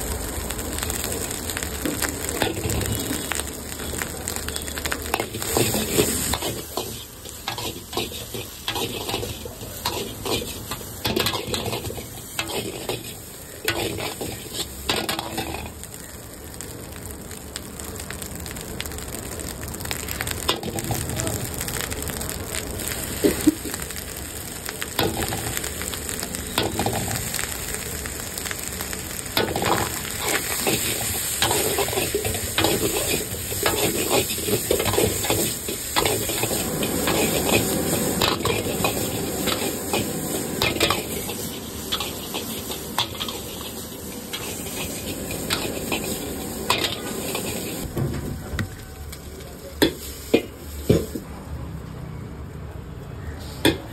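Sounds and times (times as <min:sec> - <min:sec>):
rice sizzling in wok: 0:00.0 - 0:53.9.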